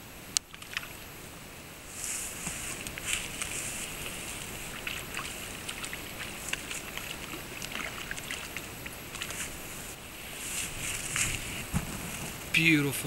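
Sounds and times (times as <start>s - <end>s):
stream water splashing: 0.4s - 1.2s, 1.8s - 12.9s.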